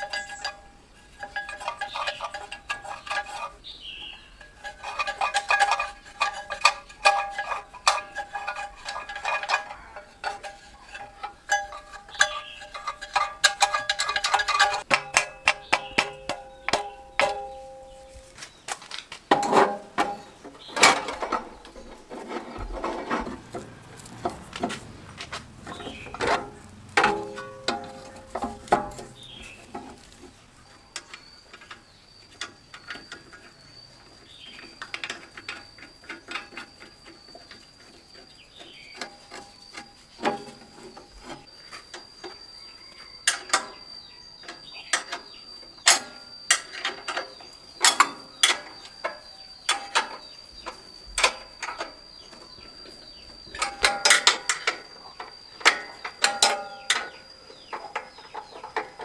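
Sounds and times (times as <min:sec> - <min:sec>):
hand tools clinking on metal: 0:00.0 - 0:42.4, 0:43.2 - 0:59.0.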